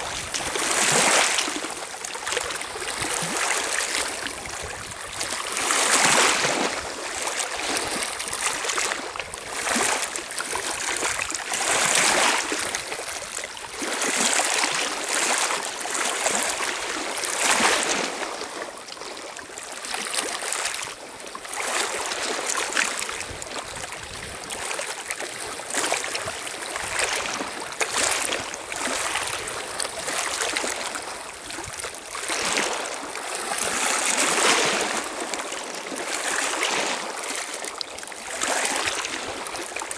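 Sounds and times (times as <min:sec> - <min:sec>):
waves lapping on pebble shore: 0:00.0 - 0:39.9.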